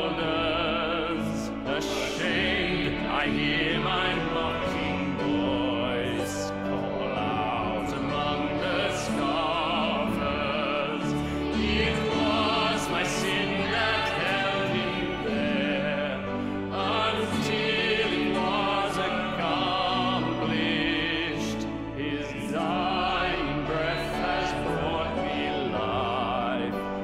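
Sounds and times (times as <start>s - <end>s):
grand piano: 0.0s - 27.0s
men singing a hymn: 0.0s - 27.0s
violin: 0.0s - 27.0s.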